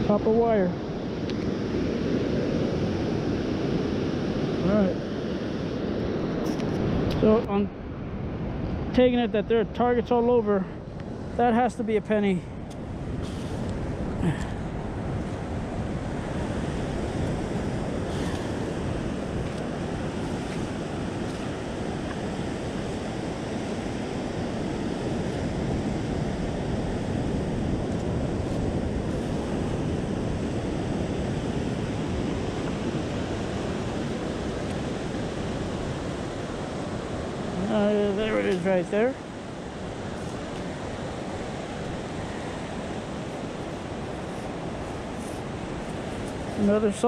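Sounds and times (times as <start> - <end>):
ocean surf washing in: 0.0 - 47.0
wind buffeting microphone: 0.0 - 47.0.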